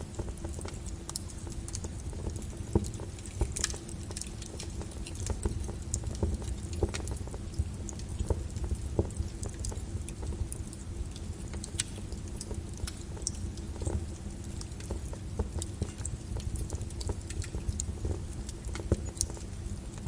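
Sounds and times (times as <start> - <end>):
lava crackling and popping: 0.0 - 20.0.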